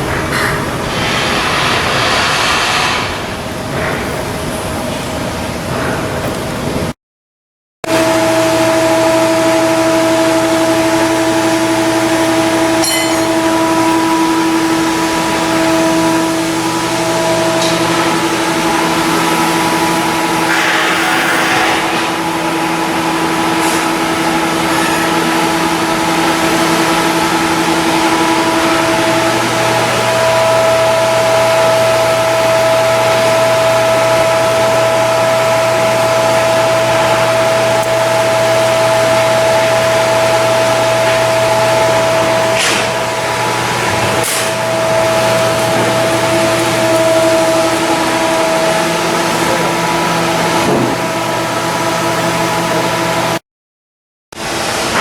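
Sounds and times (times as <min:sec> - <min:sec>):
machinery hum: 0:00.0 - 0:07.0, 0:07.9 - 0:53.4.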